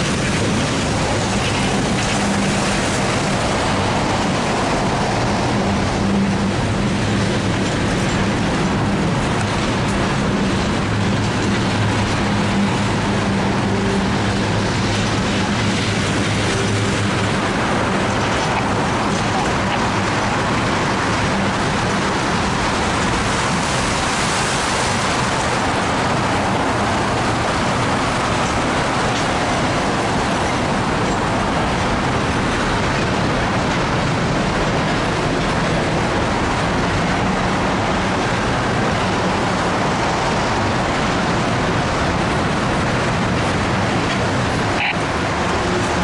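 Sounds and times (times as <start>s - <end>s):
steel wheels on rails: 0.0s - 46.0s.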